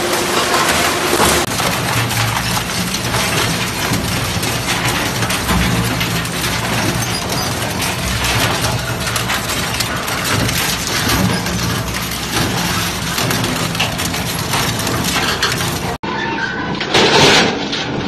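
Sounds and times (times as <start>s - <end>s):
low machine drone: 0.0s - 16.0s
shredder crunching scrap metal: 0.0s - 18.0s.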